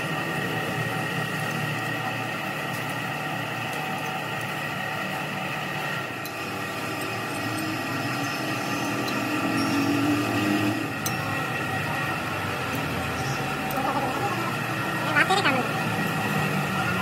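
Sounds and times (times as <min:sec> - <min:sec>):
workshop machinery humming: 0:00.0 - 0:17.0.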